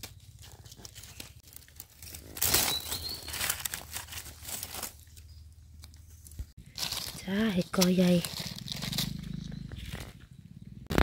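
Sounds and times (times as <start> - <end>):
dry leaves crackling and rustling: 0.0 - 10.1.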